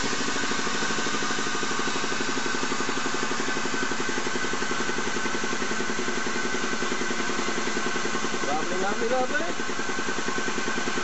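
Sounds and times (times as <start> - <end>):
hydraulic pump pulsing: 0.0 - 11.0.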